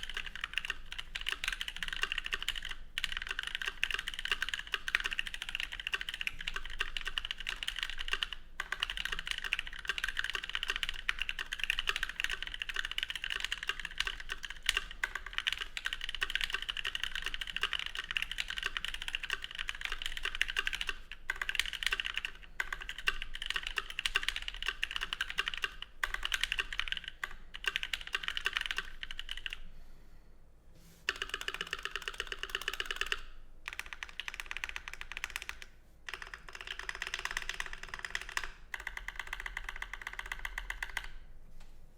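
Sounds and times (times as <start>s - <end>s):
mechanical keyboard typing: 0.0s - 29.6s, 31.1s - 41.2s.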